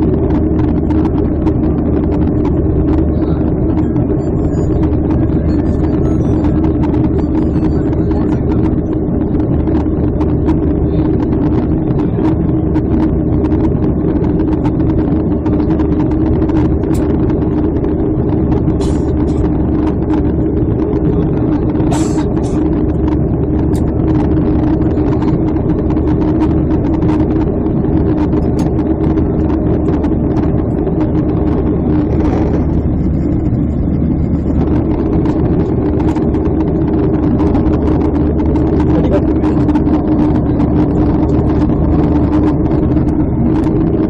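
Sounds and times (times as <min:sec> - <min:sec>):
jet engines droning: 0:00.0 - 0:44.0
low hum: 0:00.0 - 0:44.0
rushing airflow: 0:00.0 - 0:44.0.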